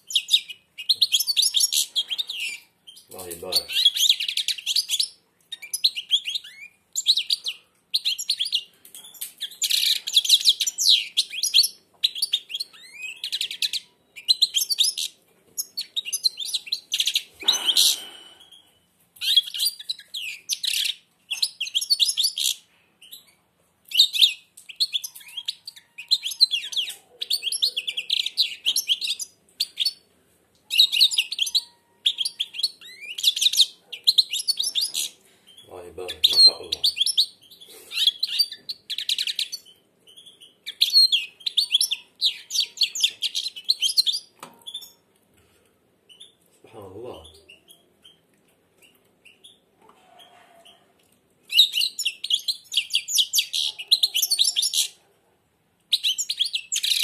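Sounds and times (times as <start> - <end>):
finch twittering song: 0.0 - 30.1, 30.7 - 45.0, 51.5 - 55.0.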